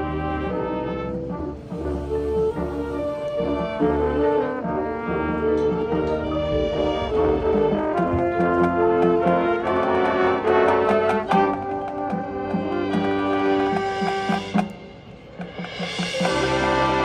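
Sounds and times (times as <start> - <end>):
marching band brass chords: 0.0 - 17.0.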